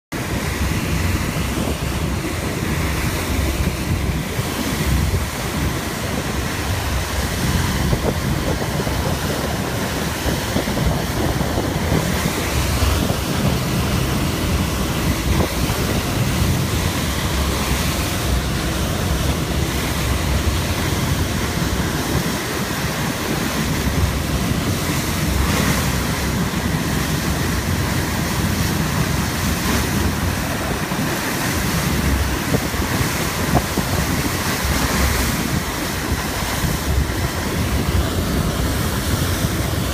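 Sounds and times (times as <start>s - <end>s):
waves rushing: 0.1s - 39.9s
wind buffeting microphone: 0.2s - 39.9s.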